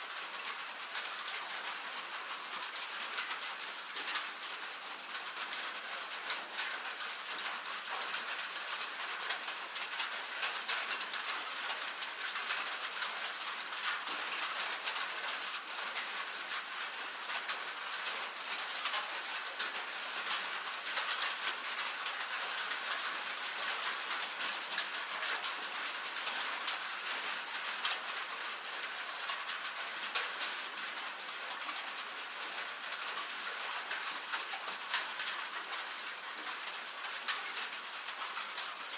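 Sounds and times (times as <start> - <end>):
light rain on a metal roof: 0.0 - 38.9.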